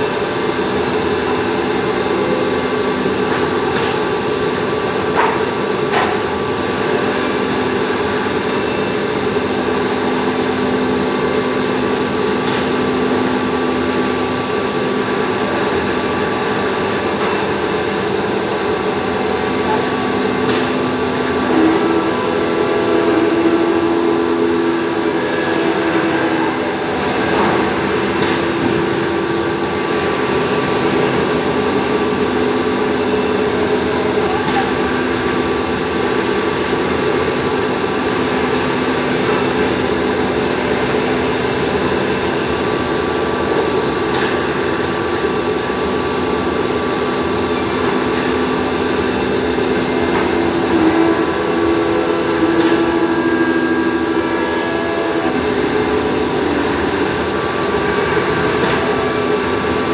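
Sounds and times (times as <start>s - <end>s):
drilling machine whirring: 0.1s - 59.9s.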